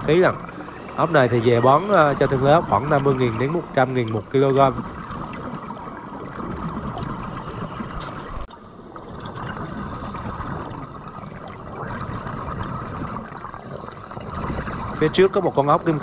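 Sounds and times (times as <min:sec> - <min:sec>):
bubbling and gurgling: 0:00.0 - 0:16.0
underwater water rushing: 0:00.0 - 0:16.0.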